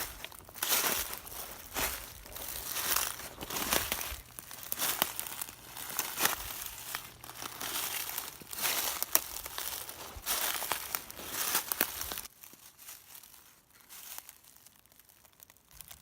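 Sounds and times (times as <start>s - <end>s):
footsteps crunching dry leaves: 0.0s - 16.0s.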